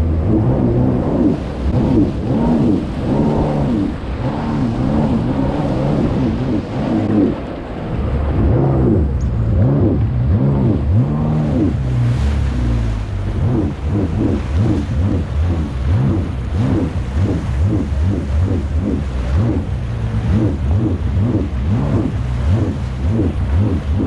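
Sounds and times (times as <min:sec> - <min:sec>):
jet ski engine running hard: 0:00.0 - 0:24.0
wind on microphone: 0:00.0 - 0:24.0.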